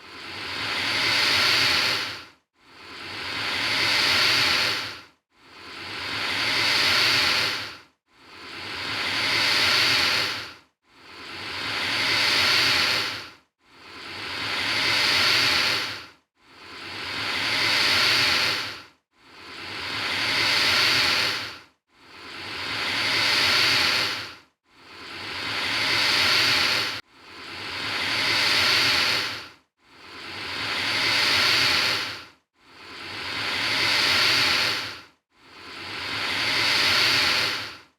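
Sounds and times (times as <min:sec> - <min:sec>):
alligator hissing: 0:00.2 - 0:02.2, 0:02.8 - 0:05.0, 0:05.6 - 0:07.7, 0:08.4 - 0:10.5, 0:11.1 - 0:13.2, 0:13.9 - 0:16.0, 0:16.7 - 0:18.8, 0:19.4 - 0:21.5, 0:22.2 - 0:24.3, 0:24.9 - 0:29.4, 0:30.1 - 0:35.0, 0:35.6 - 0:37.7.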